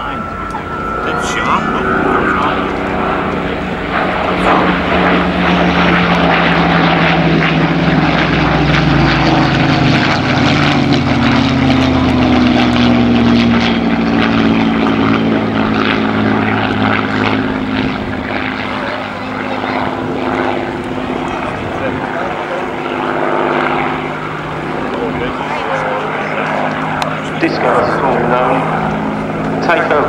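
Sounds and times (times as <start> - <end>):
propeller plane engines droning: 0.0 - 30.0.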